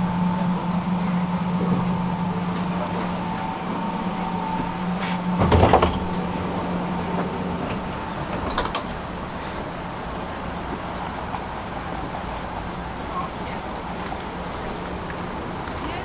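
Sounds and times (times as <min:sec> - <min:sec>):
tram electrical hum: 0:00.0 - 0:16.0
tram rattling clunk: 0:00.0 - 0:16.0.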